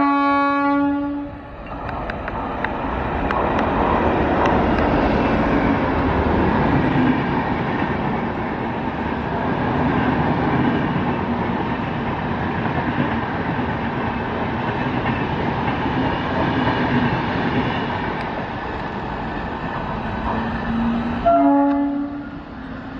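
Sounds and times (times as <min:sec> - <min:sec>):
train wheels rumbling on rails: 0:00.0 - 0:22.9.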